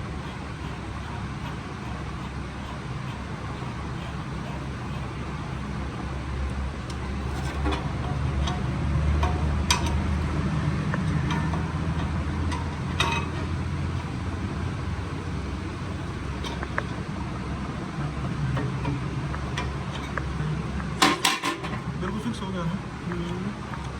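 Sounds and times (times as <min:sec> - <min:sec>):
low motor rumble: 0:00.0 - 0:23.9.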